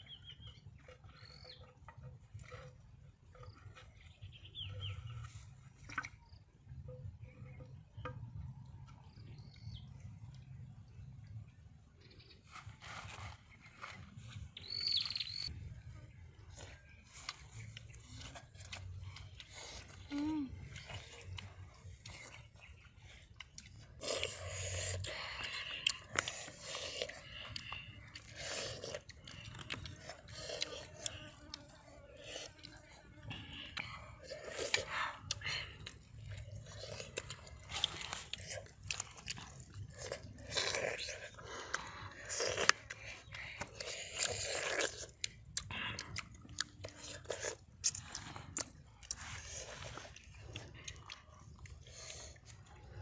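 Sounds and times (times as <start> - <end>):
boy chewing and biting: 0.3 - 7.0, 12.4 - 53.0.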